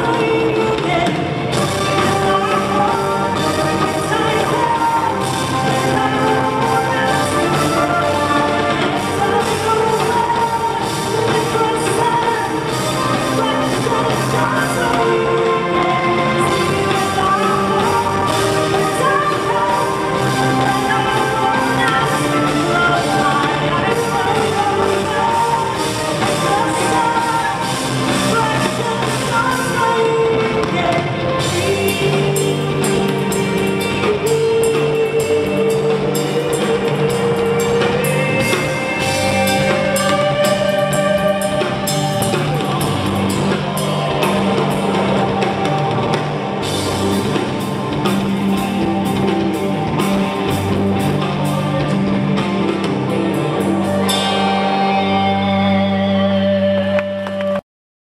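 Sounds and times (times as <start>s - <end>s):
drum kit: 0.0s - 57.6s
melodic lead guitar line: 0.0s - 57.6s
steady bass notes: 0.0s - 57.6s.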